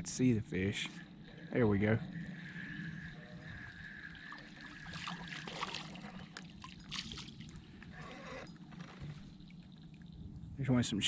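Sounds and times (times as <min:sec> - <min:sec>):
water splashing and trickling: 0:00.7 - 0:10.5.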